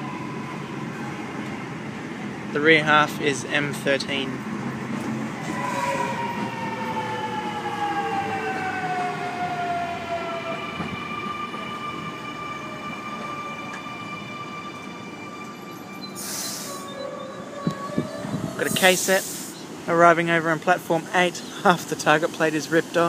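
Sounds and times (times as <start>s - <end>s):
train wheels rumbling on rails: 0.4s - 23.0s.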